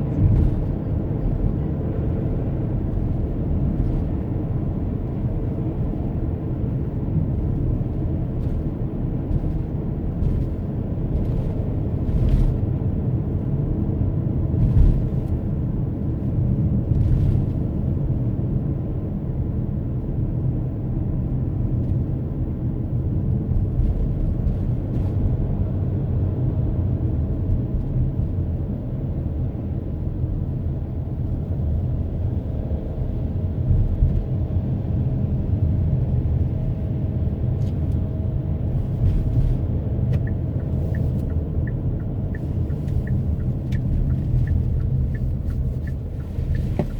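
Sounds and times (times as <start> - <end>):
car engine and tyre rumble: 0.0 - 46.9.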